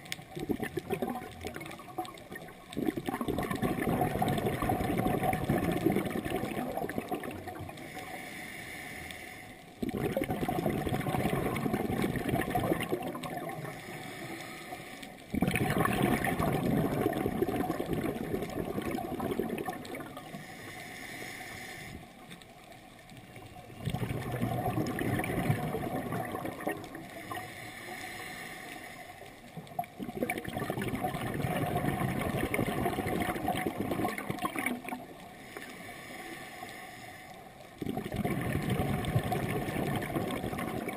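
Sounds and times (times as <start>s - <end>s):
underwater exhaust bubbles: 0.0s - 40.9s.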